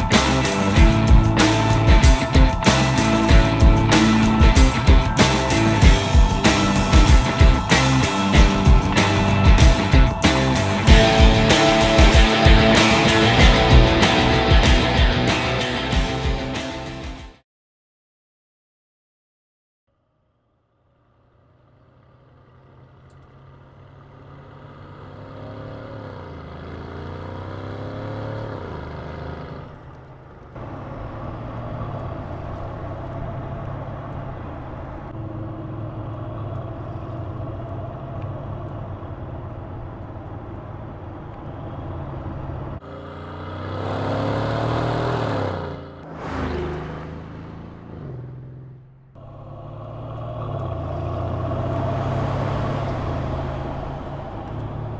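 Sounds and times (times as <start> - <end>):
car engine accelerating: 0.0 - 17.2, 20.8 - 54.9.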